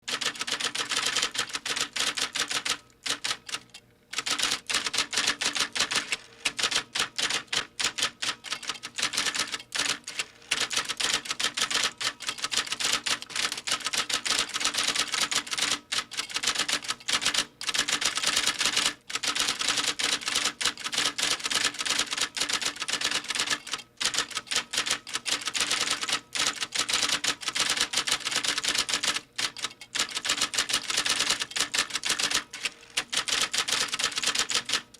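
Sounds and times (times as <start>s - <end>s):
rapid typing on keys: 0.1s - 34.9s.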